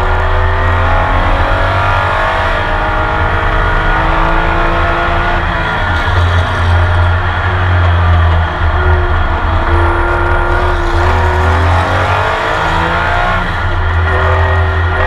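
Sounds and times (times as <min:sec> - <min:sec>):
racing engine running hard: 0:00.0 - 0:15.0.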